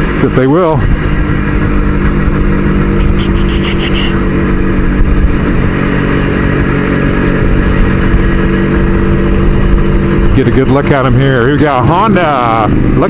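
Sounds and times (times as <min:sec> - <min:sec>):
wind rumble on microphone: 0:00.0 - 0:11.5
motorcycle engine running: 0:00.0 - 0:13.0.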